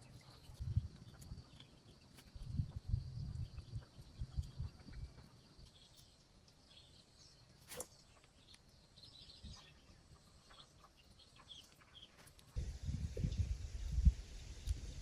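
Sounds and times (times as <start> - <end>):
faint high bird chirps: 0.0 - 13.5.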